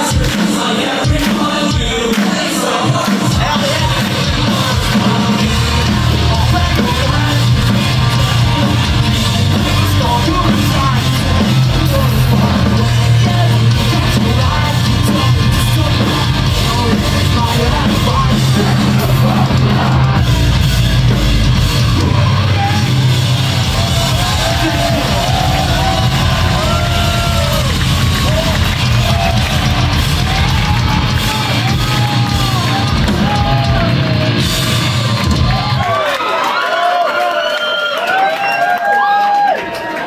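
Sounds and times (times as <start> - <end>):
live pop-punk band: 0.0 - 36.2
vocals yelling and singing: 0.0 - 37.0.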